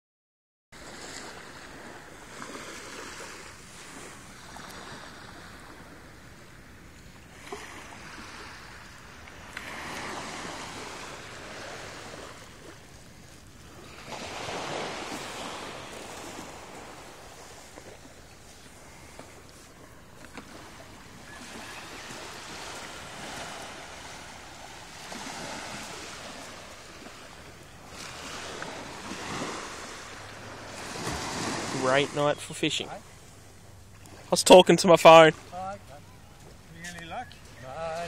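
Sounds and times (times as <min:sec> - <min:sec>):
small waves washing onto shore: 0:00.8 - 0:38.0.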